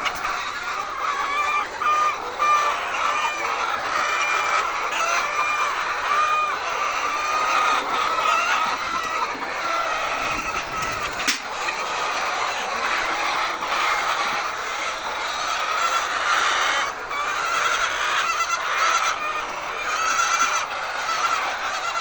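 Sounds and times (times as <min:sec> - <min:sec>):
hens squawking and clucking: 0:00.0 - 0:22.0.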